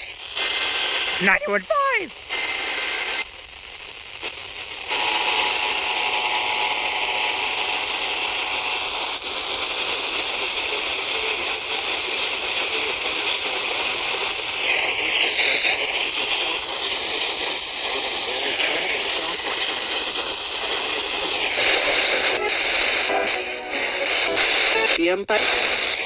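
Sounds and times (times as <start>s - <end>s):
radio static hiss and crackle: 0.0s - 26.0s.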